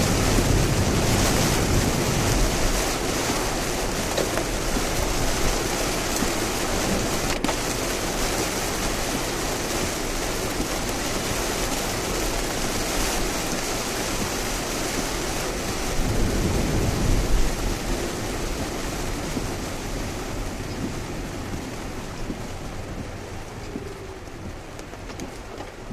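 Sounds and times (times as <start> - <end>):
heavy rain: 0.0 - 25.9
tyres on wet road: 0.0 - 25.9.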